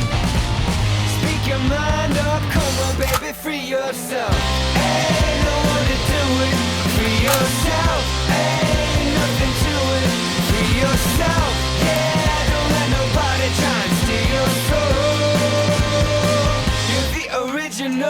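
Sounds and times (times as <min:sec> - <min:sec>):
rock song with drums and guitars: 0:00.0 - 0:17.7
person singing: 0:01.2 - 0:18.0.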